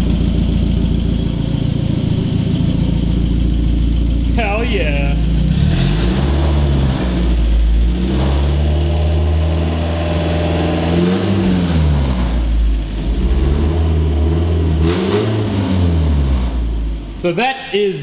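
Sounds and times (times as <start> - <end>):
car engine running and revving: 0.0 - 17.2.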